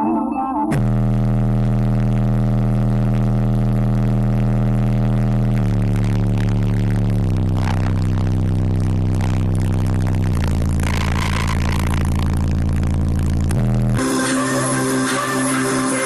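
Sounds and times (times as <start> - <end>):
distorted subwoofer bass tone: 0.7 - 16.0.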